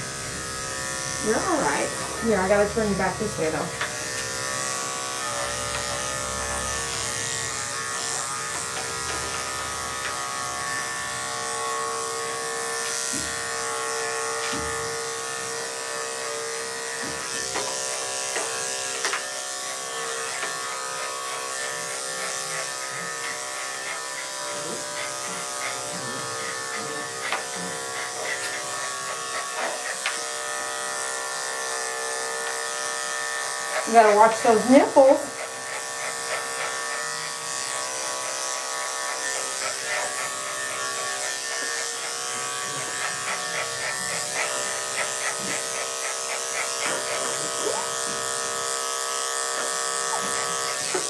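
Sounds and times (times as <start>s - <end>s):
electric clippers buzzing: 0.0s - 51.0s.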